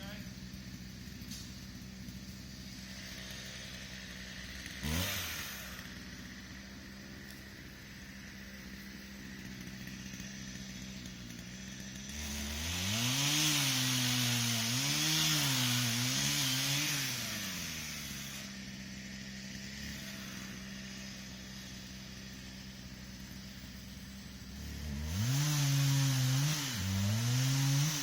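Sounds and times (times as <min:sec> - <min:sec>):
chainsaw cutting wood: 0:00.0 - 0:28.0
chainsaw idling and revving: 0:00.0 - 0:28.0.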